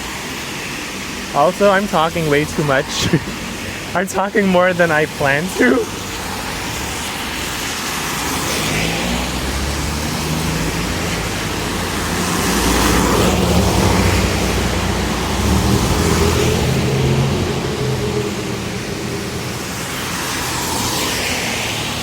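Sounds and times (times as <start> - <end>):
car engines passing: 0.0 - 22.0
rain hiss: 0.0 - 22.0
tyres on wet road: 0.0 - 22.0.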